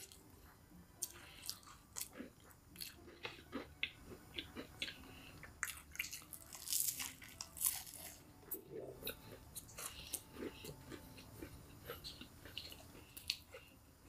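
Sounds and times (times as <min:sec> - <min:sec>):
person chewing crispy chicken: 0:01.0 - 0:13.8.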